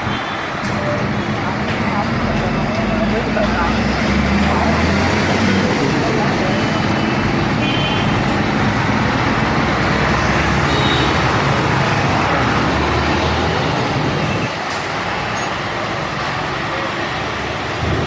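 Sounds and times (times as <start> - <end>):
road noise: 0.0 - 18.0
vehicle engines droning: 0.0 - 18.0.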